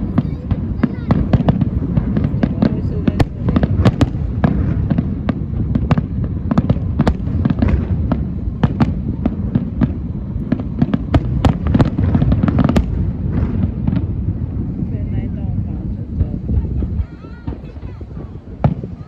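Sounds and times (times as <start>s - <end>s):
fireworks cracks and bangs: 0.0s - 19.0s
low rumble of bursting shells: 0.0s - 19.0s.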